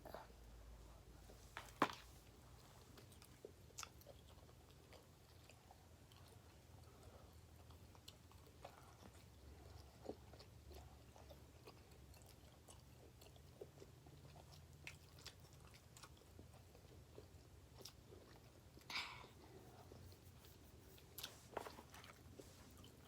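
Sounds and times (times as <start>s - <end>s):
chewing with mouth smacks: 2.8s - 23.0s.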